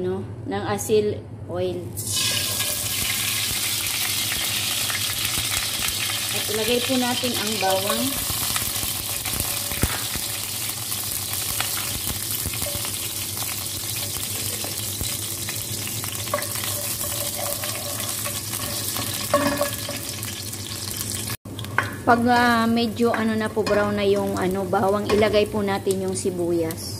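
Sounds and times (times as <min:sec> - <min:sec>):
garlic sizzling in oil: 0:02.0 - 0:26.6.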